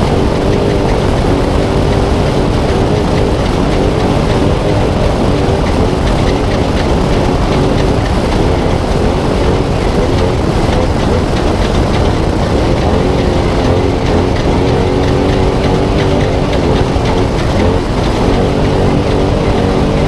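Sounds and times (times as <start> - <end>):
road and suspension rumble: 0.0 - 20.0
truck engine running hard: 0.0 - 20.0.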